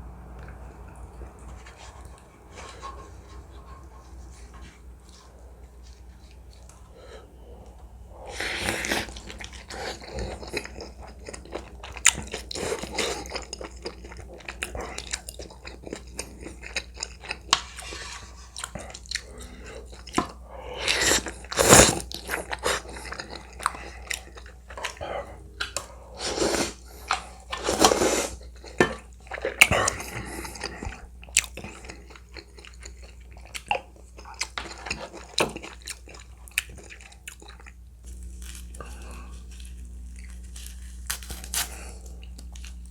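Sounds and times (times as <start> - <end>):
chewing and crunching food: 7.6 - 42.9.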